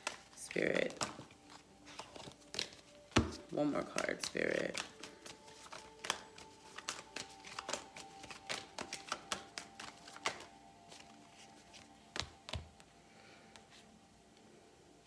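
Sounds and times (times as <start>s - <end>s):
cards being shuffled: 0.0s - 12.9s.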